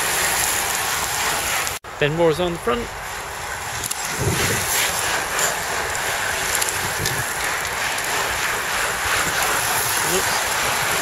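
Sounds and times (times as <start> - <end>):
bicycle tyres rushing past: 0.0 - 1.8, 2.4 - 11.0
faint bicycle ticking: 0.2 - 11.0.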